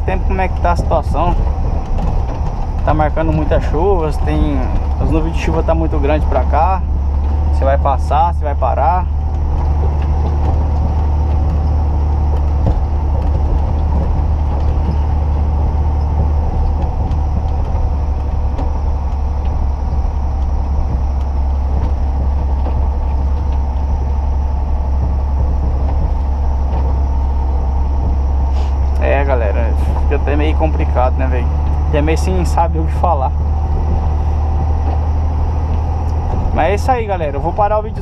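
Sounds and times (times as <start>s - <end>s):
diesel truck engine drone: 0.0s - 38.0s
road noise: 0.0s - 38.0s.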